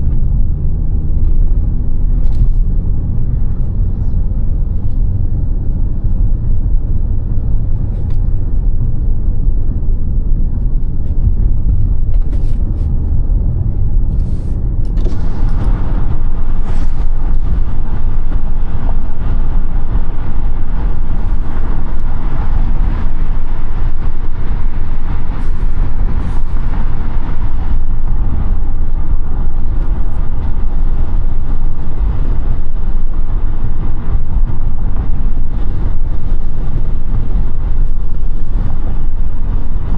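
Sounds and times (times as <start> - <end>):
car engine and road rumble: 0.0 - 39.9
tyre and wind noise: 0.0 - 39.9.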